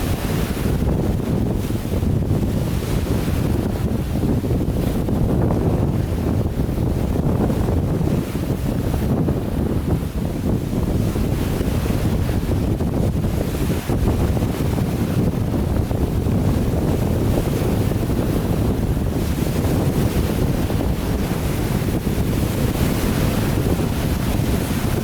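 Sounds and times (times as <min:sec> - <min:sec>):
waves washing on lake: 0:00.0 - 0:25.0
wind buffeting microphone: 0:00.0 - 0:25.0.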